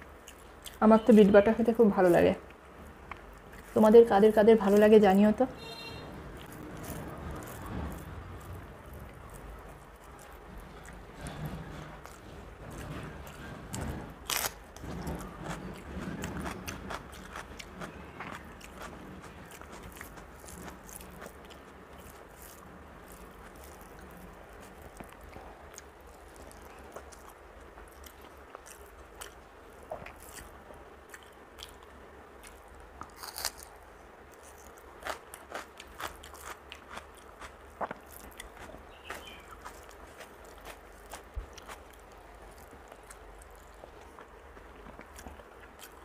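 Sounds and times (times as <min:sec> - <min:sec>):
chewing with soft crunches: 0:06.4 - 0:46.0.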